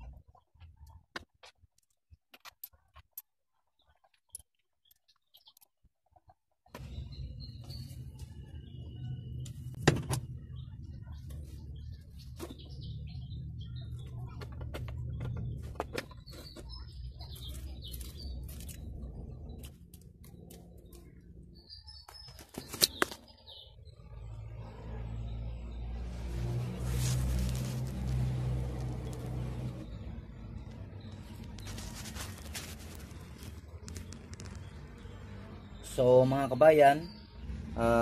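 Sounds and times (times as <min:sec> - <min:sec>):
birds chirping: 0:06.7 - 0:38.0.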